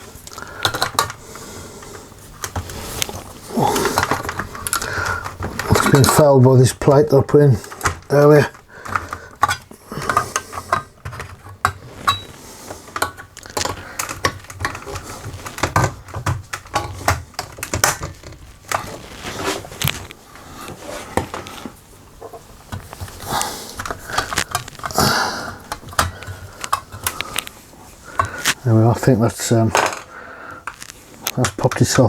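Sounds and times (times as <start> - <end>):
laminator parts clicking and rattling: 0.0 - 32.0.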